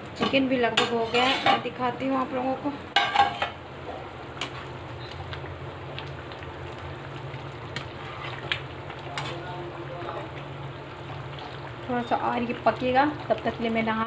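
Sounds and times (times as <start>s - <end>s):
curry bubbling in a pan: 2.4s - 14.0s.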